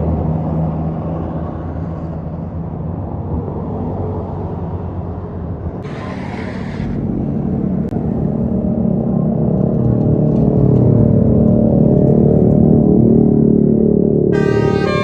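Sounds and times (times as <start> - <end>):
diesel bus engine rumbling: 0.0 - 15.0.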